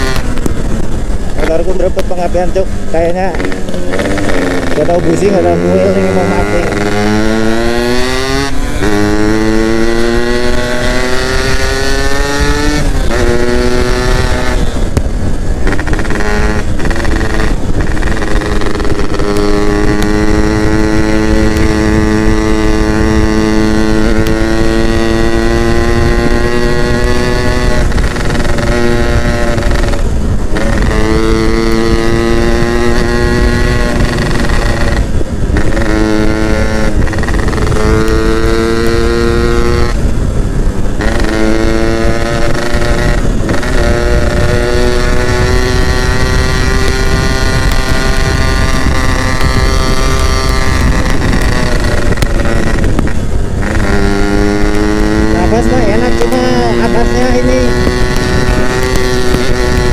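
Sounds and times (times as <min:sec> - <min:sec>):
two-stroke engine accelerating: 0:00.0 - 0:59.9.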